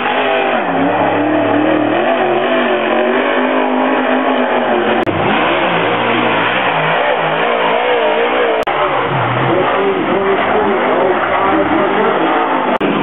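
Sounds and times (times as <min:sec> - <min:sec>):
race car engines at speed: 0:00.0 - 0:13.0.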